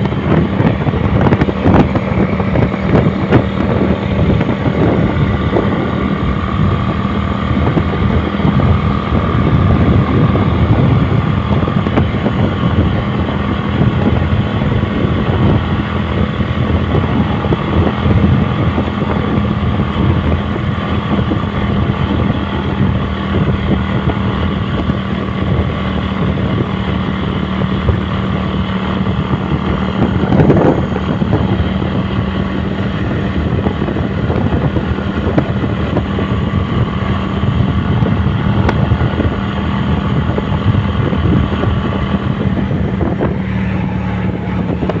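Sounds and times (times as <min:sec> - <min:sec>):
motorcycle engine rumbling: 0:00.0 - 0:45.0.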